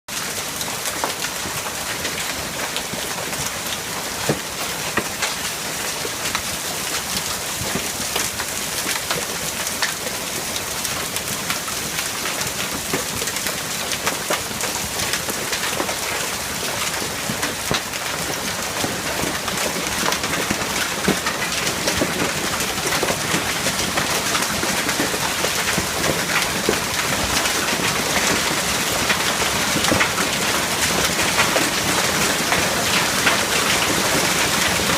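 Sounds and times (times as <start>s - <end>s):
hail and rain pelting down: 0.1s - 34.9s.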